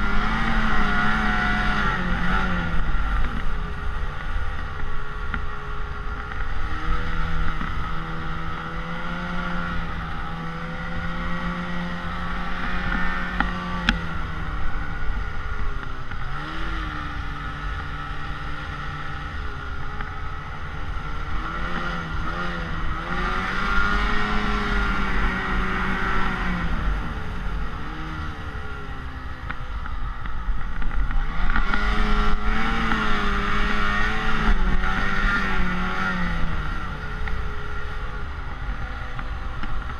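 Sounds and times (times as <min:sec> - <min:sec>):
snowmobile engine revving: 0:00.0 - 0:30.2, 0:30.8 - 0:39.9.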